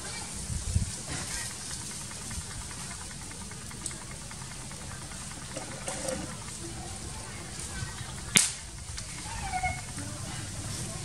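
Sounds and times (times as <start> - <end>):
people talking: 0.0 - 11.0.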